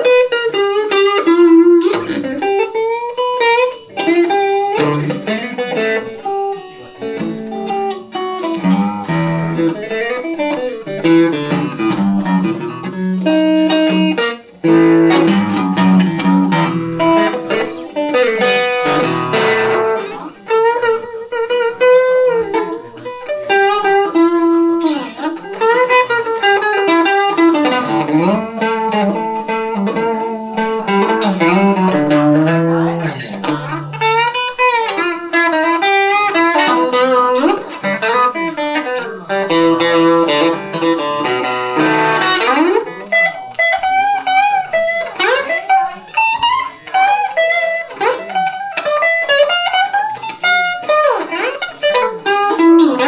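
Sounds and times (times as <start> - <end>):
electric guitar playing blues: 0.0 - 53.0.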